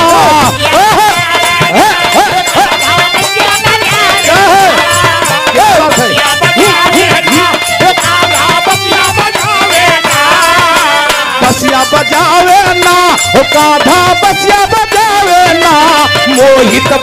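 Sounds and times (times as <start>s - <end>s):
dholak drum: 0.0s - 17.0s
harmonium: 0.0s - 17.0s
percussion strikes: 0.0s - 17.0s.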